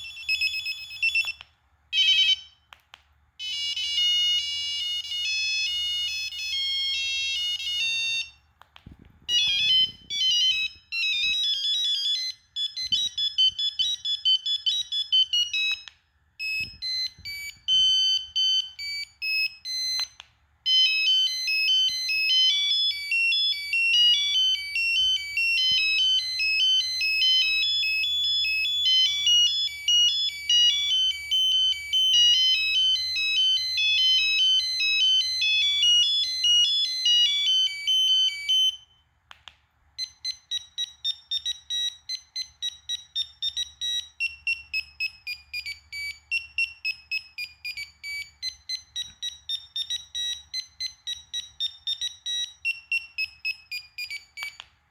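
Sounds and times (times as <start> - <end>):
electronic ringtone melody: 0.0 - 1.4, 2.0 - 2.6, 3.4 - 8.4, 9.3 - 39.0, 40.0 - 54.6.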